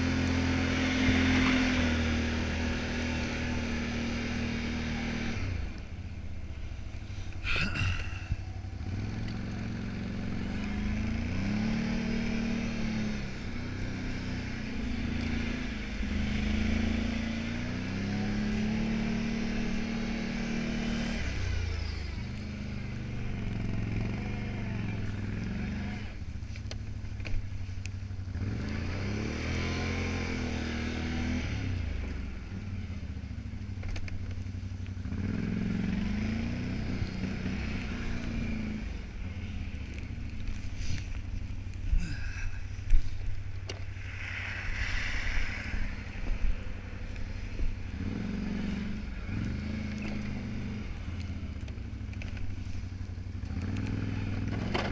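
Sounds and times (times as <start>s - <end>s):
atv engine revving: 0.0s - 54.9s.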